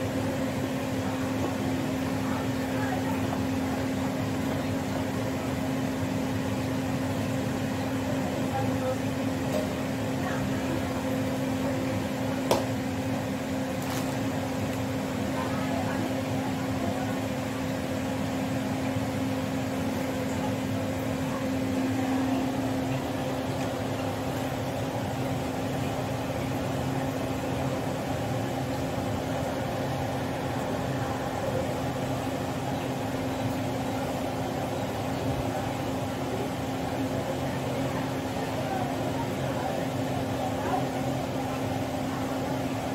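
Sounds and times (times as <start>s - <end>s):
refrigerator compressor humming: 0.0s - 42.9s.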